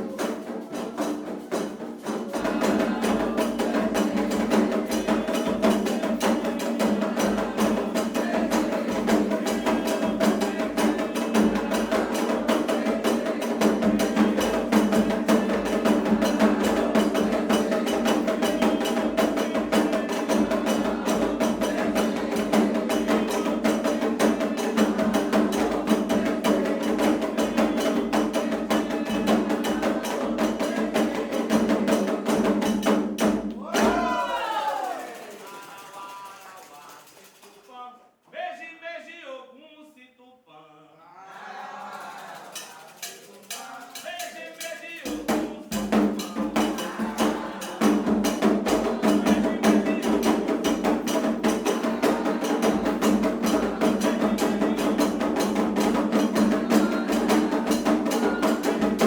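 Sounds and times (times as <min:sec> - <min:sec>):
fast dense drumming: 0:00.0 - 0:34.3, 0:45.0 - 0:59.0
woody clacking beat: 0:00.0 - 0:37.7, 0:42.4 - 0:59.0.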